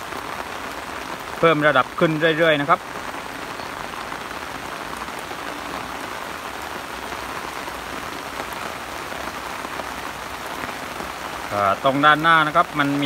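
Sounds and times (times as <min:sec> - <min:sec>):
heavy rain on water: 0:00.0 - 0:13.0.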